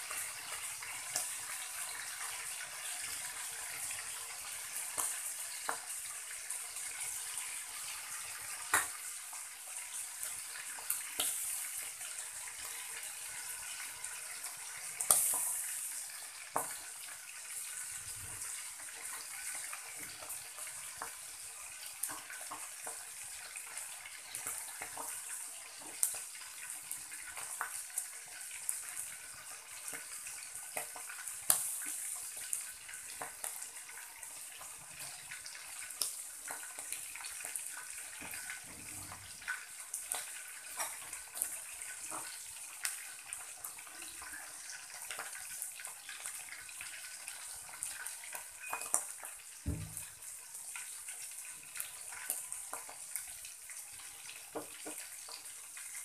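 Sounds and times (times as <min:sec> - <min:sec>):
meat sizzling in oil: 0:00.0 - 0:56.0.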